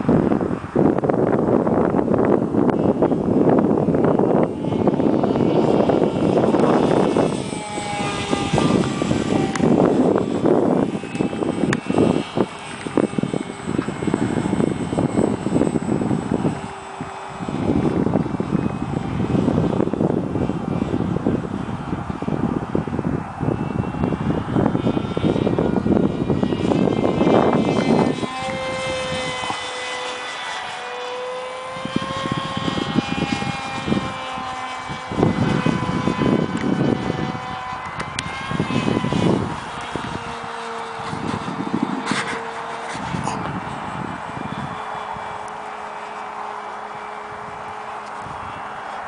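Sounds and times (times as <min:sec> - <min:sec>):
model airplane motor whine: 0:00.0 - 0:49.0
wind buffeting microphone: 0:00.0 - 0:49.0.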